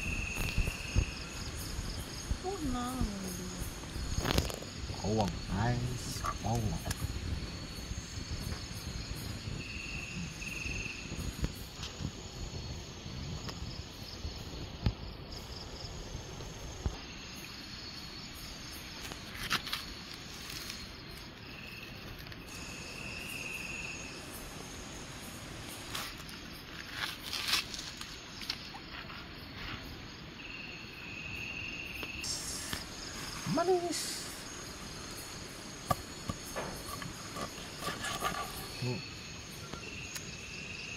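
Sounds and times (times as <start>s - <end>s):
crickets and insects calling: 0.0s - 40.9s.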